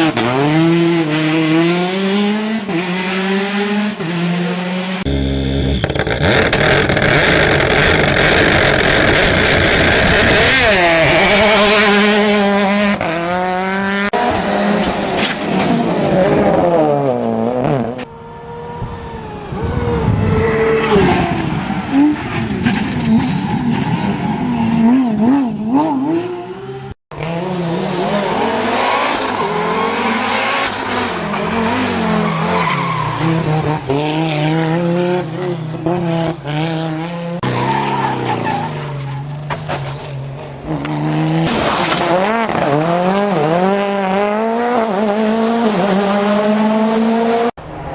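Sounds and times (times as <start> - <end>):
rally car engines revving: 0.0 - 47.9
tyres skidding: 3.6 - 24.8, 27.1 - 46.7.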